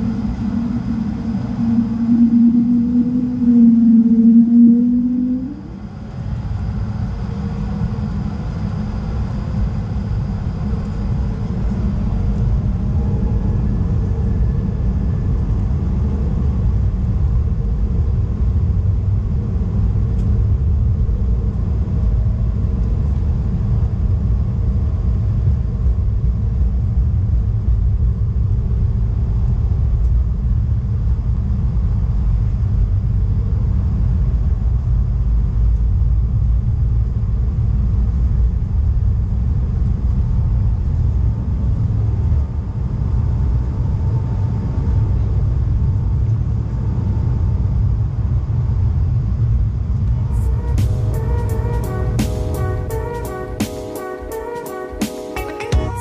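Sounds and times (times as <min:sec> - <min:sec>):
jet engines rumbling at takeoff: 0:00.0 - 0:56.0.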